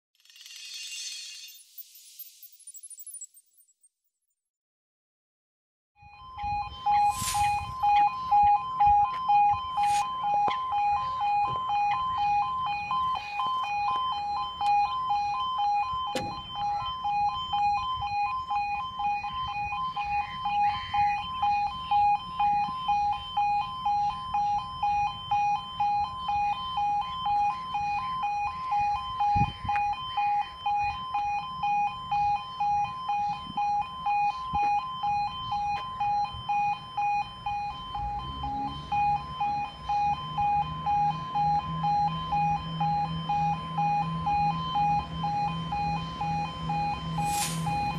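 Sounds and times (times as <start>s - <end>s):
two-tone crossing alarm: 0.2s - 3.8s, 6.0s - 47.9s.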